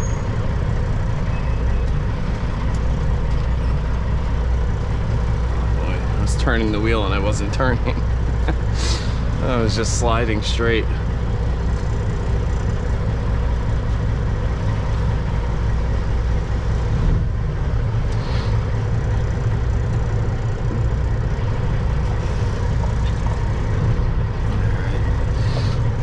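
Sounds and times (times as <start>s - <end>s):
truck diesel engine droning: 0.0s - 26.0s.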